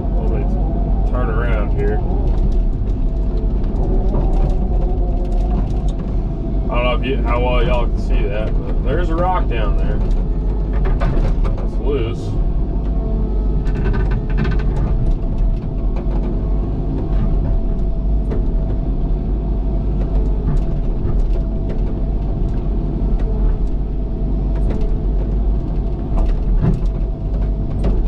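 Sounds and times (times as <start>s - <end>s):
excavator diesel engine running: 0.0s - 28.0s
steady whine: 0.0s - 28.0s.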